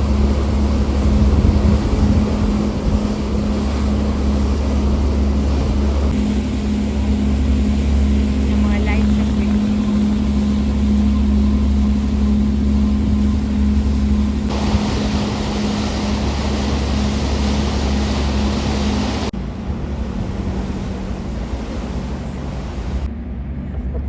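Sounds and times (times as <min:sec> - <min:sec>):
rush of wind and water: 0:00.0 - 0:23.2
ferry engine droning: 0:00.0 - 0:24.0.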